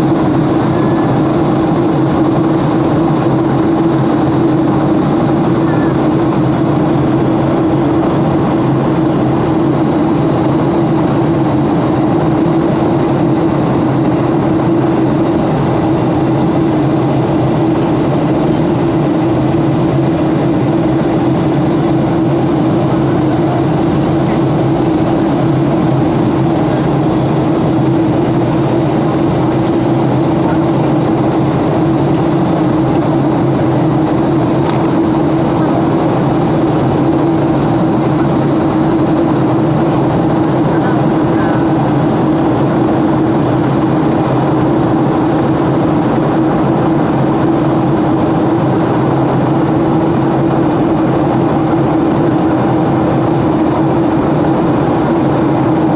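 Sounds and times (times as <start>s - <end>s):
airplane cabin roar: 0.0s - 55.9s.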